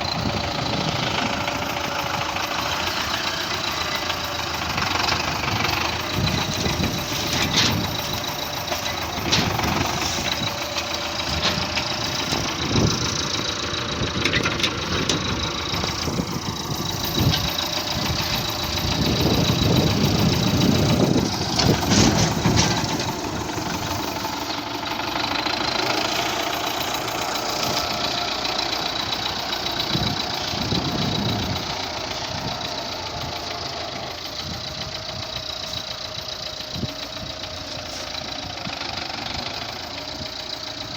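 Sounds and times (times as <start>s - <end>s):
diesel tractor engine running: 0.0s - 40.9s
rattles and knocks: 0.3s - 40.6s.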